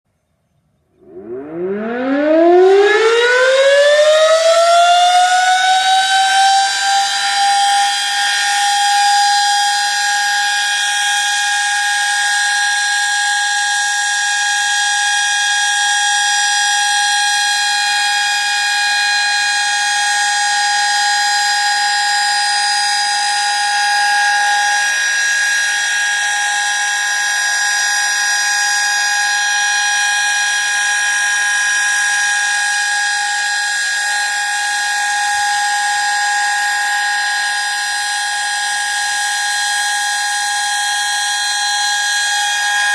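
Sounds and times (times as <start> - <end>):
electromechanical siren steady chord: 0.8 - 42.9.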